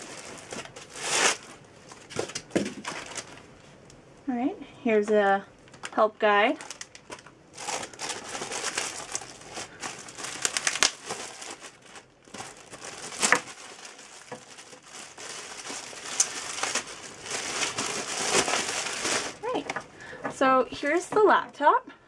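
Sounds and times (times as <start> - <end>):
plastic wrap crinkling: 0.0 - 3.9, 5.6 - 20.1.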